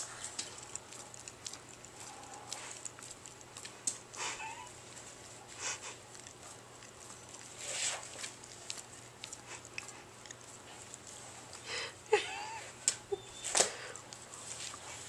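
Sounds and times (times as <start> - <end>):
dog licking: 0.0 - 15.0.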